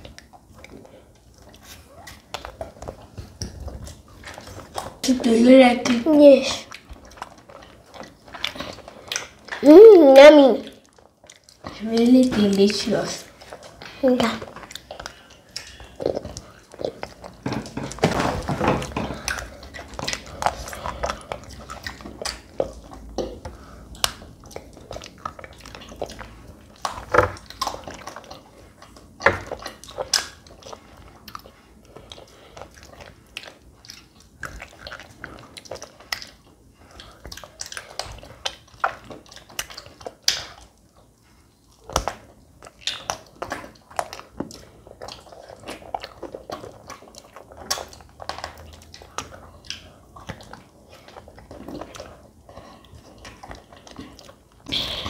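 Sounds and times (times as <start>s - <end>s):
children eating and chewing: 0.0s - 55.0s.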